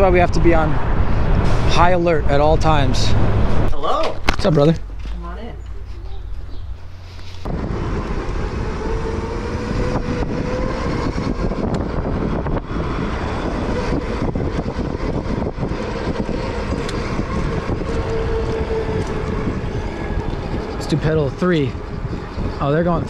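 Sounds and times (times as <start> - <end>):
wind rushing over microphone: 0.0 - 5.1, 6.1 - 23.0.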